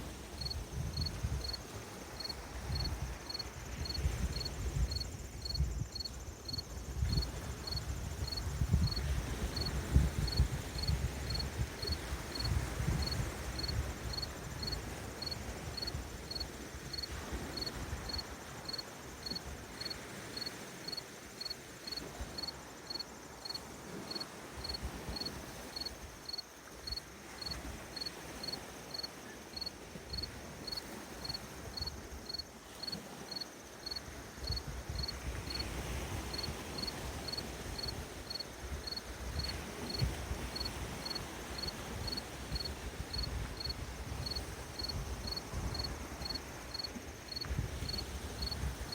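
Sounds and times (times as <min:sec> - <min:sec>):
cricket chirping: 0:00.0 - 0:48.9.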